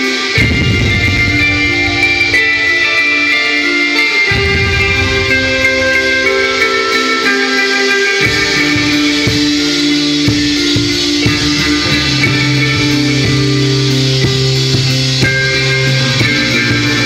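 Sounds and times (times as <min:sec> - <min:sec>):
bass guitar: 0:00.0 - 0:17.0
ringing electric guitars: 0:00.0 - 0:17.0
drum hits: 0:00.4 - 0:07.2, 0:08.2 - 0:17.0.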